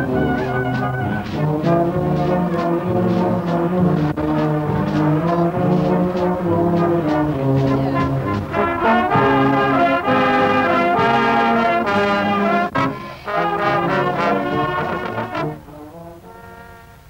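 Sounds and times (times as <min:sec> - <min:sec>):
brass instruments playing chords: 0:00.0 - 0:17.0.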